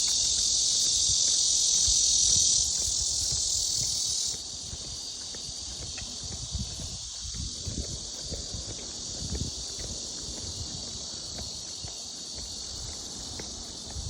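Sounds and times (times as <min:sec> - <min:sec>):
cicadas buzzing in chorus: 0:00.0 - 0:14.0.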